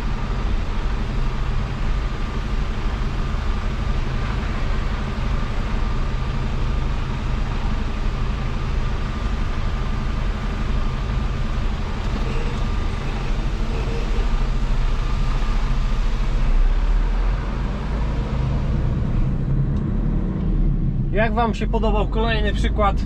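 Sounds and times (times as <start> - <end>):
truck diesel engine humming: 0.0 - 23.0.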